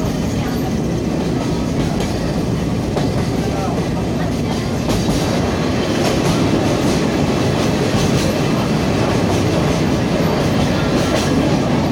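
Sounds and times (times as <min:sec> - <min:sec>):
clickety-clack of rail joints: 0:00.0 - 0:11.9
train wheels rumbling on rails: 0:00.0 - 0:11.9.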